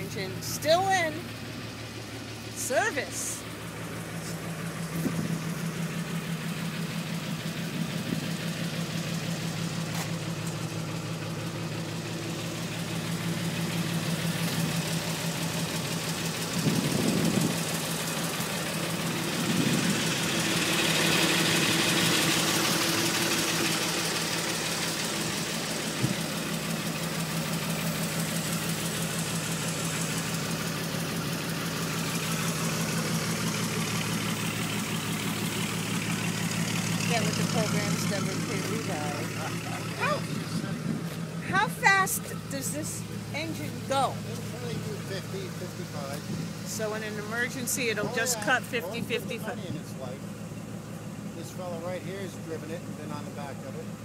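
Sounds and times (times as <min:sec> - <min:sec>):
fire engine idling: 0:00.0 - 0:54.0.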